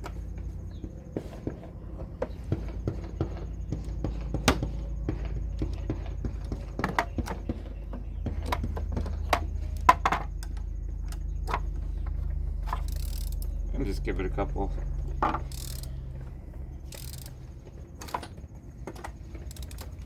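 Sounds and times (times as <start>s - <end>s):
sharp knocks and clicks: 0.0s - 13.8s, 14.5s - 20.0s
steady low hum: 0.0s - 20.0s.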